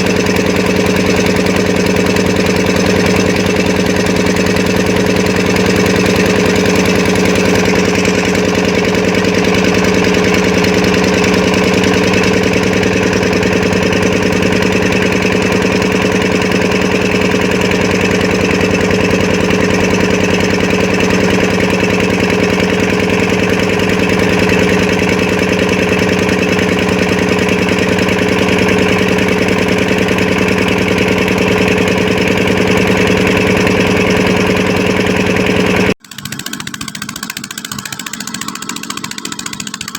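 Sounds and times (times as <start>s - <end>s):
small engine humming: 0.0s - 39.9s.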